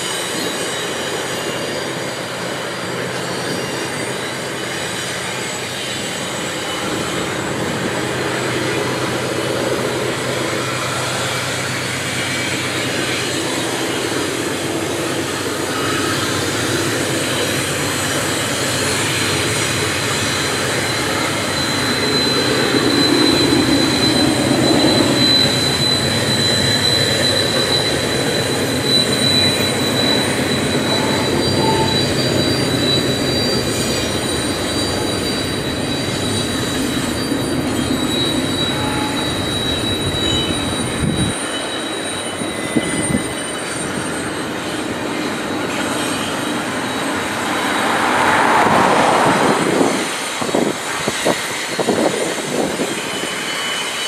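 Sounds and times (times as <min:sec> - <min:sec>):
freight train rumbling and clattering: 0:00.0 - 0:54.0
high-pitched wheel squeal: 0:00.0 - 0:54.0.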